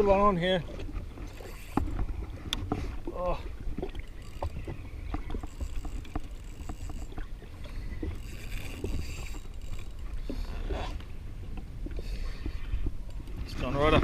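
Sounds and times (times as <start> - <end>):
rumble of wind and water: 0.0 - 14.0.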